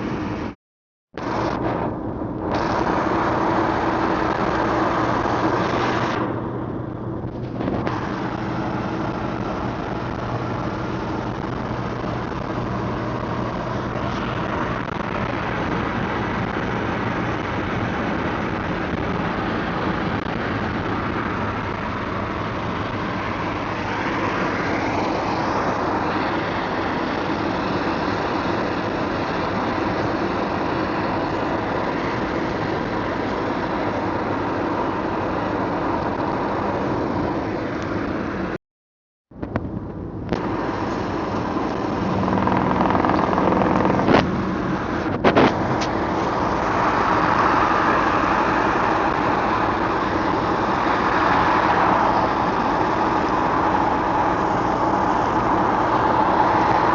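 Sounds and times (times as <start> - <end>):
car road and engine noise: 0.0 - 38.6, 39.3 - 56.9.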